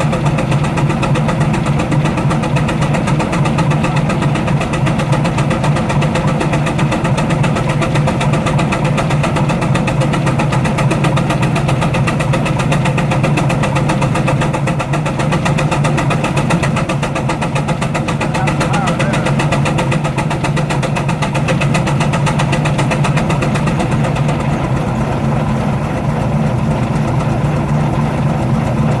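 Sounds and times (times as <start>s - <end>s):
steam engine exhaust chuffing: 0.0s - 29.0s.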